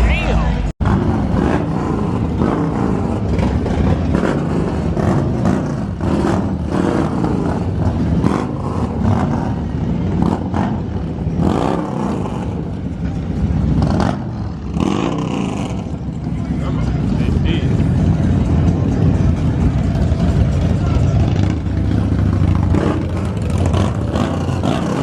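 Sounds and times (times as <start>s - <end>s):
vehicle engine surging: 0.0s - 25.0s.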